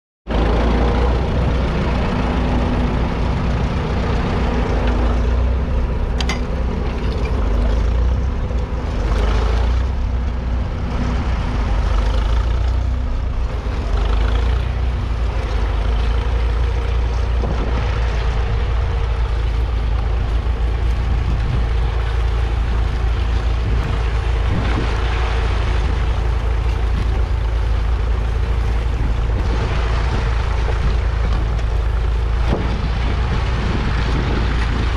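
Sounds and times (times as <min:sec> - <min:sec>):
tractor engine running under load: 0:00.3 - 0:34.9.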